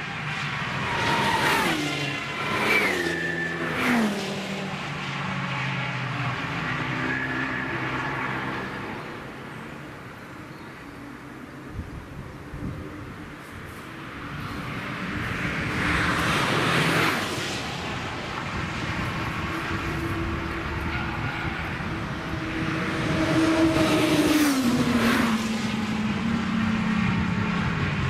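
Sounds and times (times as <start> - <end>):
race cars passing at speed: 0.0 - 28.0.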